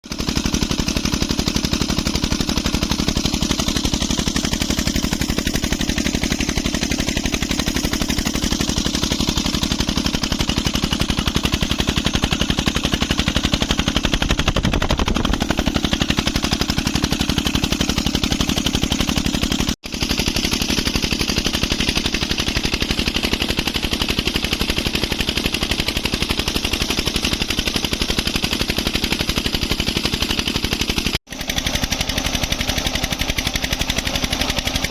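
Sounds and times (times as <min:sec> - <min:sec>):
stationary engine running: 0:00.0 - 0:34.9.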